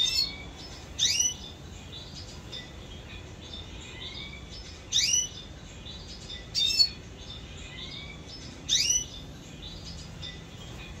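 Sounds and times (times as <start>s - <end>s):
birds twittering: 0.0s - 11.0s.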